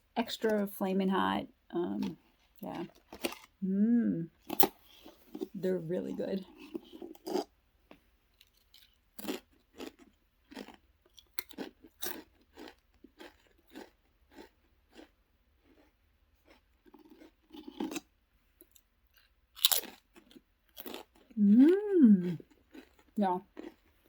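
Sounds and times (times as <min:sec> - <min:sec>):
person chewing crisps: 0:02.0 - 0:03.6, 0:04.4 - 0:05.6, 0:06.4 - 0:07.5, 0:08.3 - 0:24.0.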